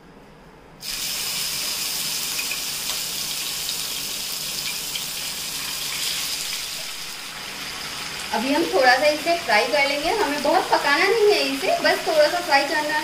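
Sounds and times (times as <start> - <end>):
chicken sizzling in hot oil: 0.8 - 13.0.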